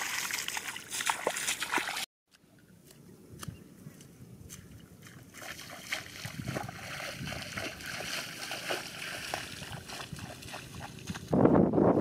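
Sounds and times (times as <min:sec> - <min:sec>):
footsteps splashing through water: 0:00.0 - 0:02.1, 0:02.8 - 0:11.4.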